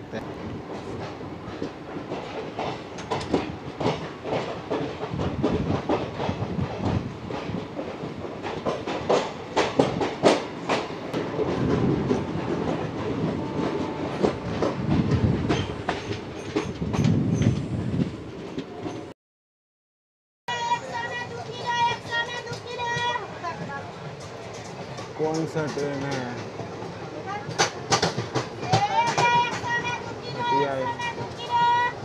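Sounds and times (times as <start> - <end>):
train wheel rumble: 0.0 - 19.1, 20.5 - 32.0
wheels clacking over rail joints: 0.2 - 17.6, 21.0 - 32.0.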